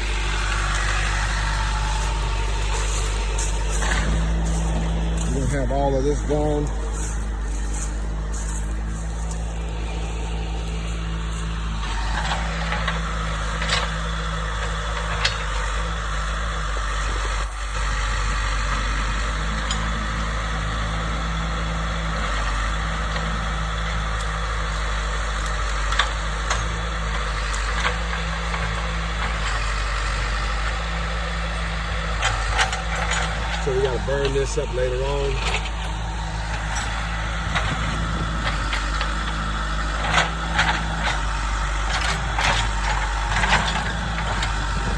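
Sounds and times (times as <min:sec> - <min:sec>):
heavy diesel engine working: 0:00.0 - 0:44.9.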